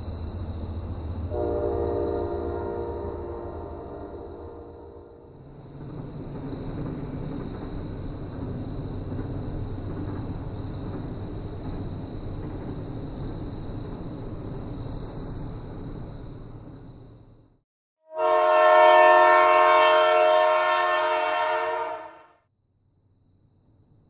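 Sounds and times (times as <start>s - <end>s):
train rolling by: 0.0s - 17.6s, 18.2s - 22.3s.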